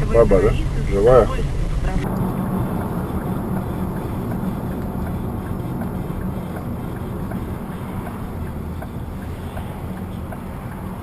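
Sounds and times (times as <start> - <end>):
car driving rumble: 0.0 - 11.0
road and wind noise: 0.0 - 11.0.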